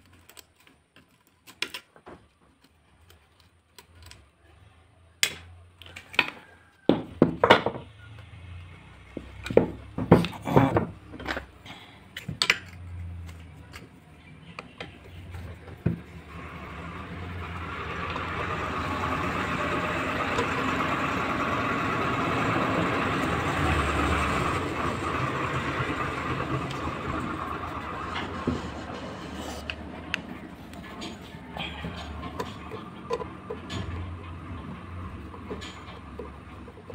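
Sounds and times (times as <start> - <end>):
steady mechanical hum: 0.0 - 36.9.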